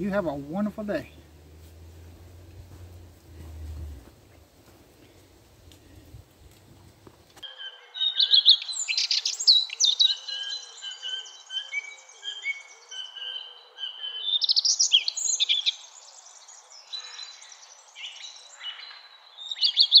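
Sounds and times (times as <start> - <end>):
birds singing: 0.0 - 6.5, 7.4 - 20.0.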